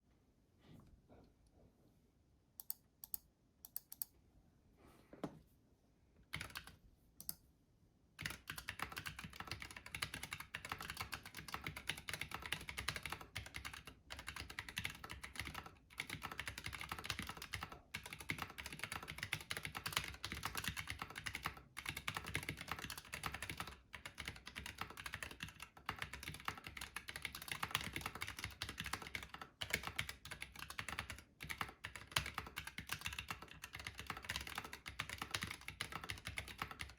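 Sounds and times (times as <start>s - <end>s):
mechanical keyboard typing: 6.3s - 7.4s, 8.2s - 36.9s.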